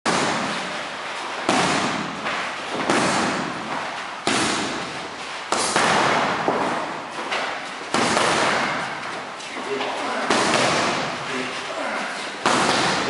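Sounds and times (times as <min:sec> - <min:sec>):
boxing gloves hitting mitts: 0:00.1 - 0:13.0.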